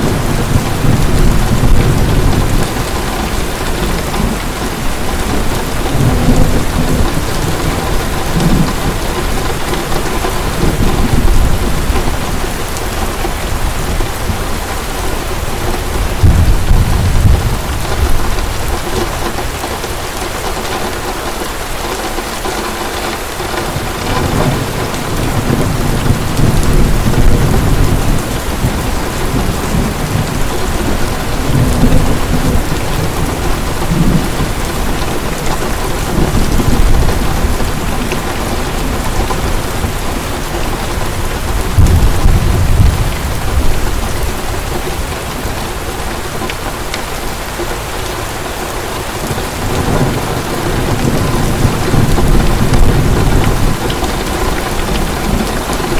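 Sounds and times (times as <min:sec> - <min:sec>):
low rolls of thunder: 0:00.0 - 0:14.8, 0:15.5 - 0:19.4, 0:23.6 - 0:46.1, 0:49.2 - 0:55.9
heavy rain falling: 0:00.0 - 0:55.9.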